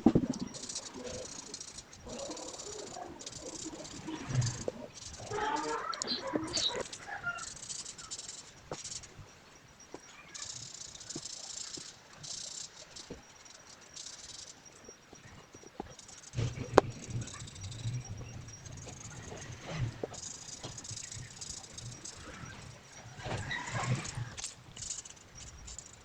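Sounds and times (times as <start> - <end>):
light ticks: 0.0 - 26.0.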